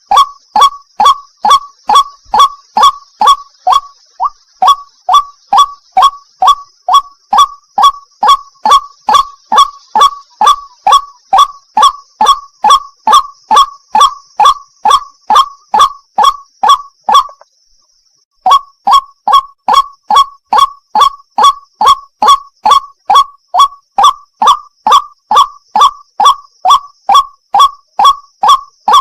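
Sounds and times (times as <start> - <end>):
waterhen calling: 0.0 - 17.5, 18.4 - 29.0.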